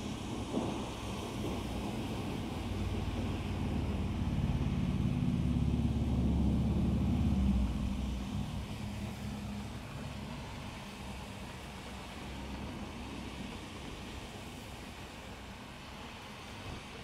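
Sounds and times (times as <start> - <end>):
low rumble of thunder: 0.0 - 15.9
heavy rain falling: 0.0 - 17.0.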